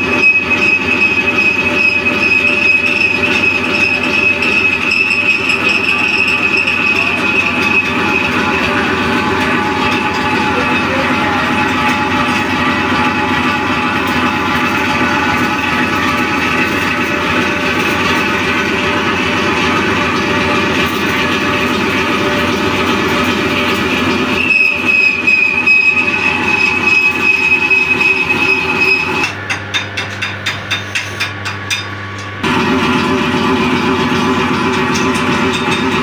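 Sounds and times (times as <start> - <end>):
high-pitched cutting whine: 0.0 - 29.4
metal lathe running: 0.0 - 36.0.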